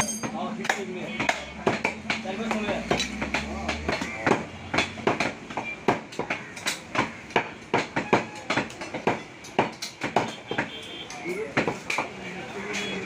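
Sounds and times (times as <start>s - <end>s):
cleaver chopping on a block: 0.2s - 10.8s, 11.4s - 12.2s.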